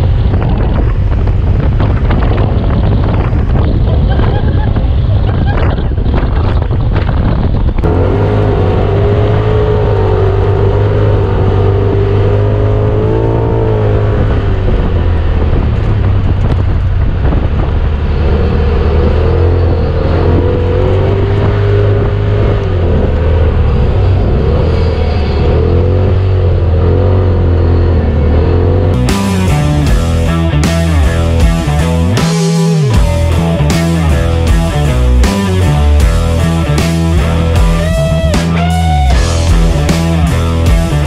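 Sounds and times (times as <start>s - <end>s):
utility vehicle engine revving: 7.7s - 41.0s.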